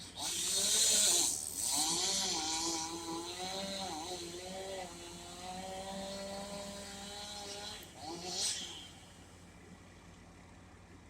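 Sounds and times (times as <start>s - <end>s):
chainsaw engine at high revs: 0.0s - 9.2s.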